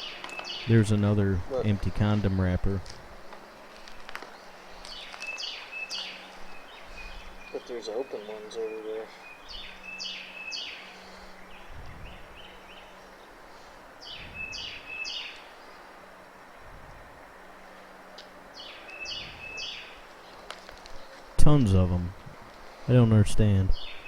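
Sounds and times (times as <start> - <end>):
faint background noise: 0.0 - 24.0
songbird singing: 0.0 - 24.0.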